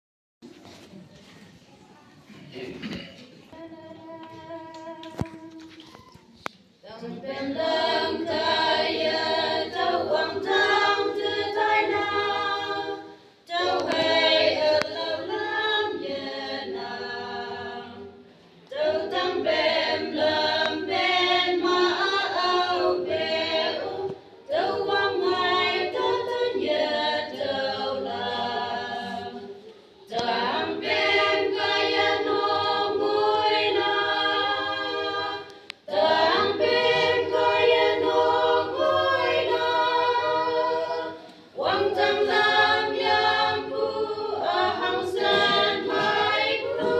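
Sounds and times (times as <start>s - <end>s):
women's choir singing a hymn: 2.6s - 5.8s, 6.4s - 46.9s.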